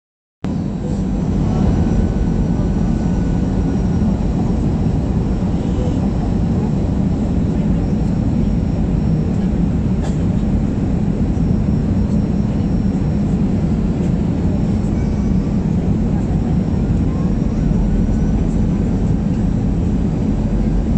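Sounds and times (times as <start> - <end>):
airliner cabin engine and airflow noise: 0.4 - 20.9.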